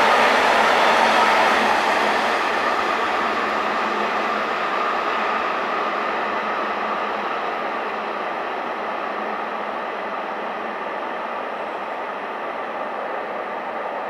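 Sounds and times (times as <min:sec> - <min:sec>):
freight train wheels rushing: 0:00.0 - 0:14.0.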